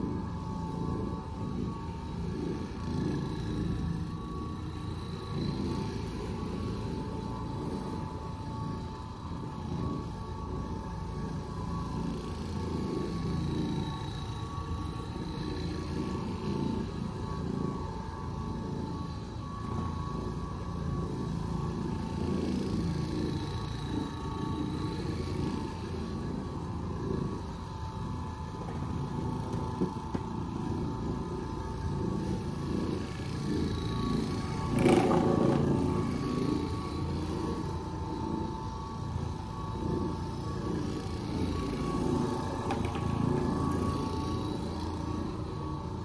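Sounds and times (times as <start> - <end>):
floor machine motor hum: 0.0 - 46.0.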